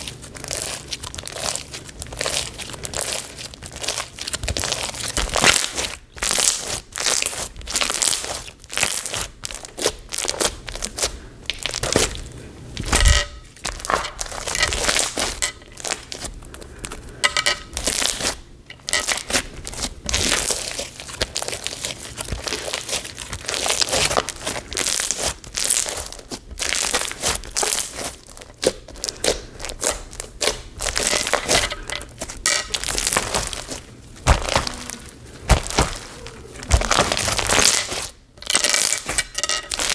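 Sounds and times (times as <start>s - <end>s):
crunchy slime kneaded by hand: 0.0s - 39.9s.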